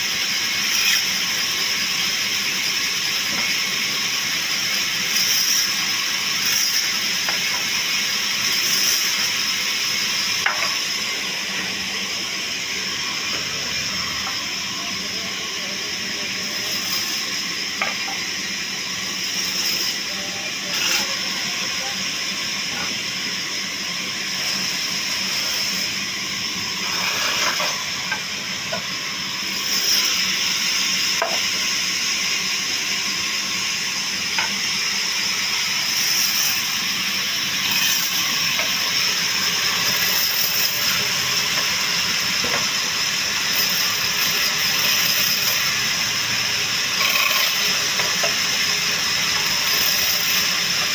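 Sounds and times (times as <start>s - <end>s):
woodworking machinery running: 0.0s - 50.9s.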